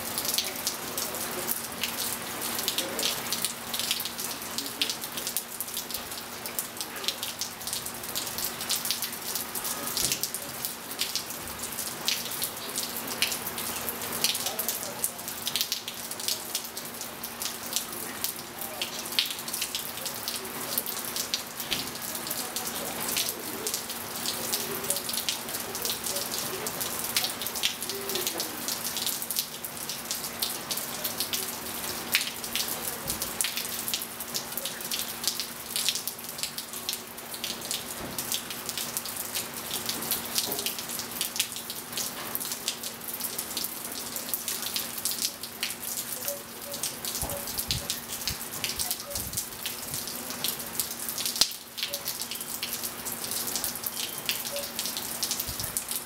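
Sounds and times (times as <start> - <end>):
rain on water and tiles: 0.0 - 56.0.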